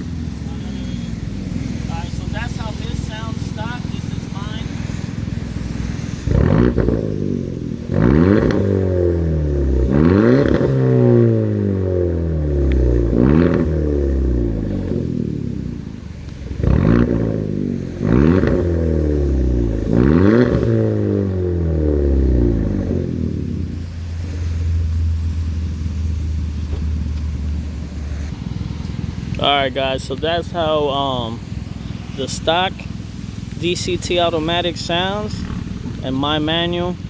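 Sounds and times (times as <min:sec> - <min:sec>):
car engine revving and idling: 0:00.0 - 0:37.0.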